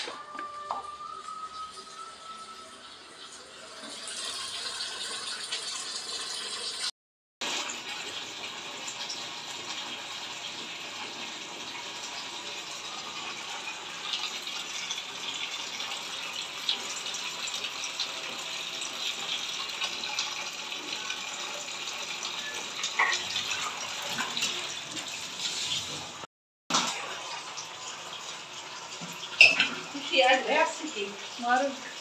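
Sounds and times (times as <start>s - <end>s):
water running from a tap: 0.5s - 32.0s.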